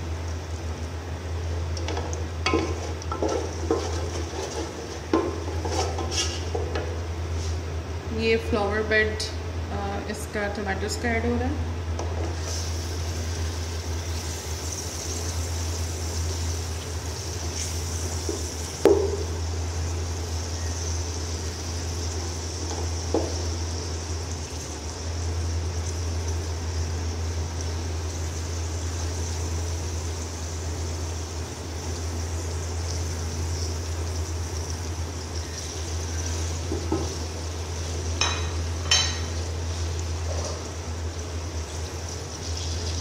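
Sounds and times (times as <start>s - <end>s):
tomatoes sizzling in hot oil: 0.0s - 7.6s, 12.2s - 43.0s.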